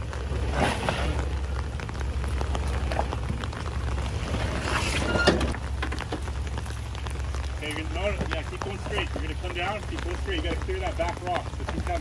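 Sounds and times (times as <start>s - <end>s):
engine rumbling at low revs: 0.0s - 12.0s
tyres crunching on rocks: 0.0s - 12.0s.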